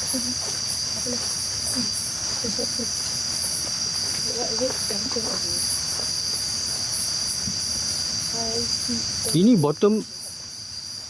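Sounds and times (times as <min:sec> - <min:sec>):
insects trilling: 0:00.0 - 0:11.0
pulsing insect chirp: 0:00.0 - 0:11.0.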